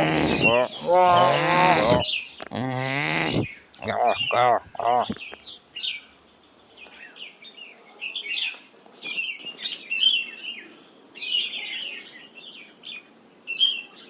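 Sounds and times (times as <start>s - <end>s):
small birds chirping and chattering: 0.0s - 14.0s.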